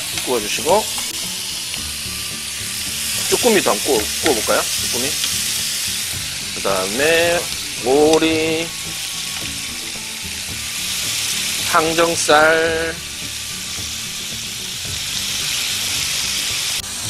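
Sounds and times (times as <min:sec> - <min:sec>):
meat sizzling on hot griddle: 0:00.0 - 0:17.0.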